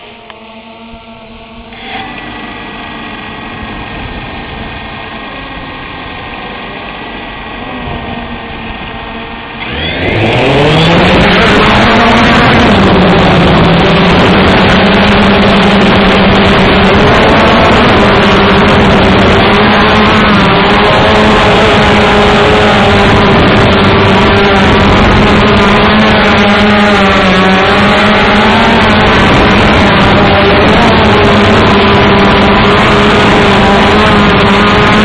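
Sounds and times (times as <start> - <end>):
drone motors whining: 0.0 - 35.0
drone propeller hum: 0.0 - 35.0.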